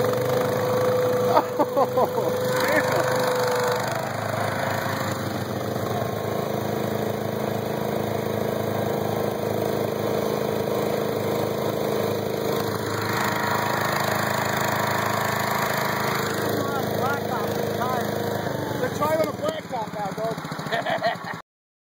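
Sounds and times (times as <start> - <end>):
atv engine running: 0.0 - 21.4
lawn tractor engine running: 0.0 - 21.4.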